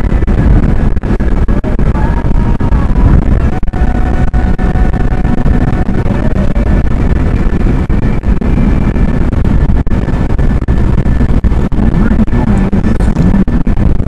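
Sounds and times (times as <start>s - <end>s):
tyres rumbling on road: 0.0s - 14.0s
wind noise: 0.0s - 14.0s.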